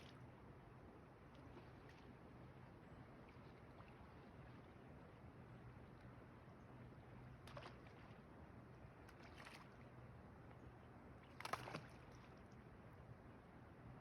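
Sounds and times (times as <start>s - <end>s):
faint water splashes: 0.0s - 13.6s.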